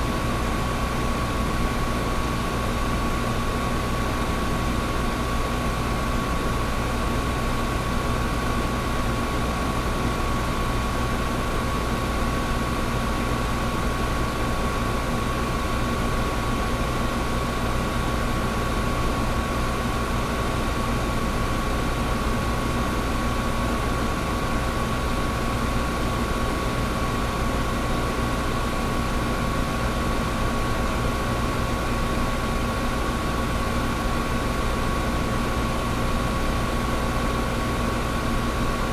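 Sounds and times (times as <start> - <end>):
fan air whoosh: 0.0 - 38.9.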